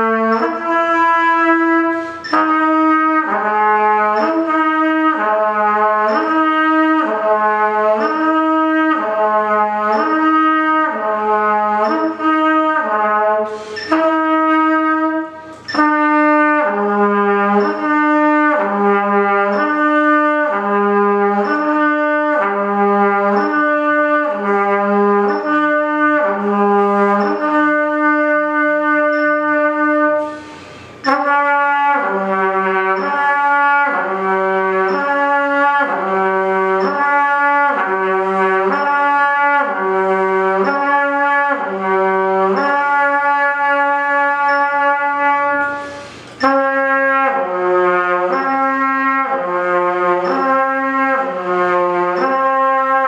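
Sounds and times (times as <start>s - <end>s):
air escaping at trumpet mouthpiece: 0.0s - 53.0s
trumpet playing lip slurs: 0.0s - 53.0s.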